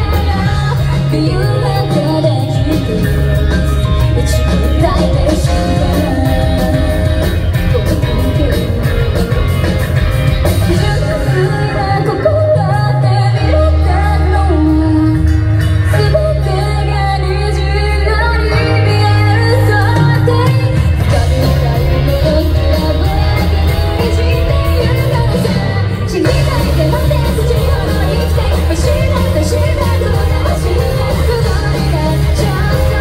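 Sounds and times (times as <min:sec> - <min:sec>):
bass guitar: 0:00.0 - 0:33.0
drums: 0:00.0 - 0:33.0
electric guitar: 0:00.0 - 0:33.0
woman singing: 0:00.0 - 0:33.0.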